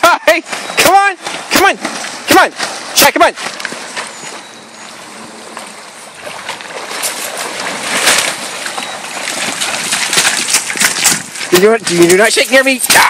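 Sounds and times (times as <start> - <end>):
stream running water: 0.0 - 13.0
dog splashing through water: 0.4 - 13.0.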